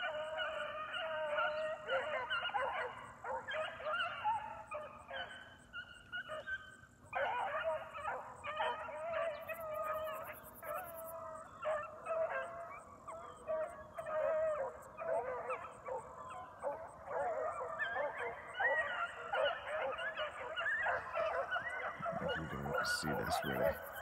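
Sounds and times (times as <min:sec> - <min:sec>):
pack of dogs baying: 0:00.0 - 0:24.0.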